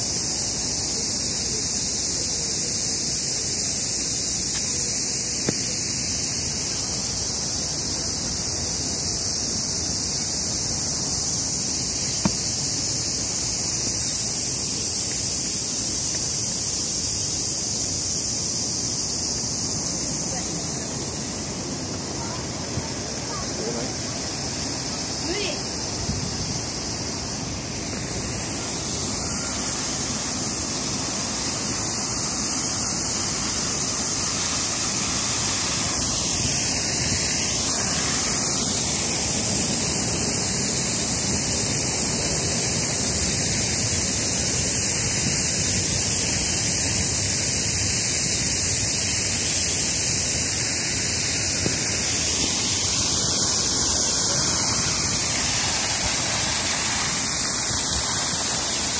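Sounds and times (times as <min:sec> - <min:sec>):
fountain jets splashing: 0:00.0 - 0:58.9.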